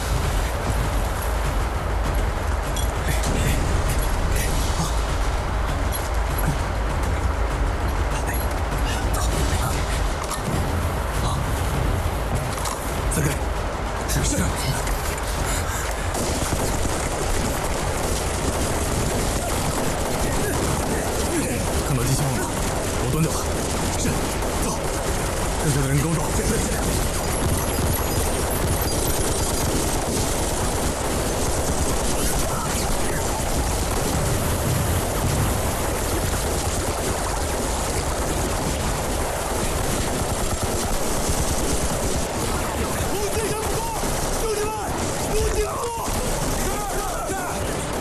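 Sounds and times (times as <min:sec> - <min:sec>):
rifles and machine guns firing: 0:00.0 - 0:48.0.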